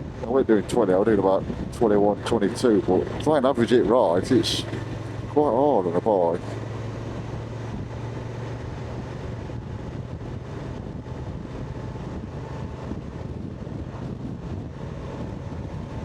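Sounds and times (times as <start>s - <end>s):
motorcycle engine running: 0.0s - 16.0s
wind on microphone: 0.0s - 16.0s.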